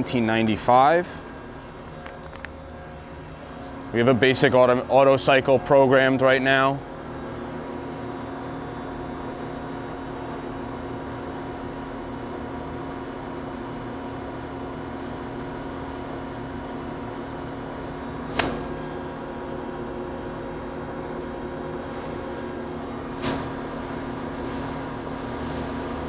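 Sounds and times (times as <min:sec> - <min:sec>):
industrial machinery humming: 0:00.0 - 0:10.2, 0:15.2 - 0:26.0.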